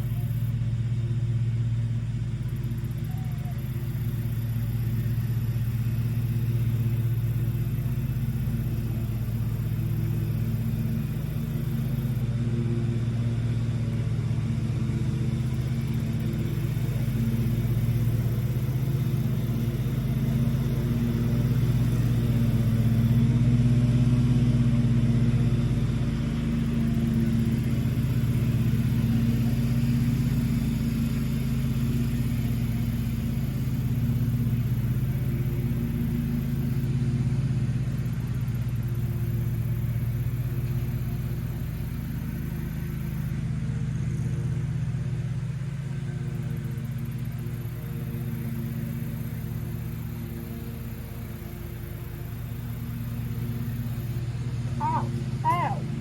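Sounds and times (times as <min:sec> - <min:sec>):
low engine hum: 0:00.0 - 0:56.0.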